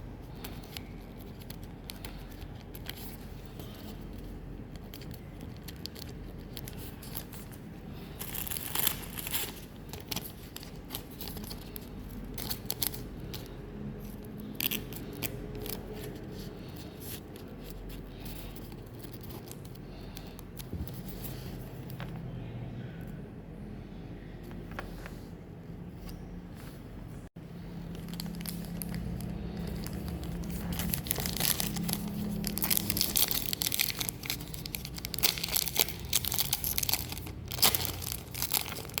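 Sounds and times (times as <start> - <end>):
cards and packs crinkling: 0.0 - 22.1, 27.5 - 39.0.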